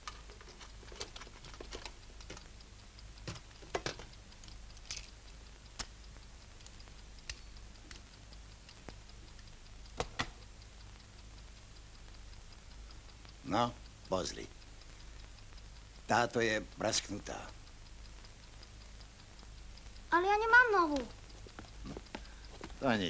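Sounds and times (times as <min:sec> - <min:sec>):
clock ticking: 0:00.0 - 0:23.0.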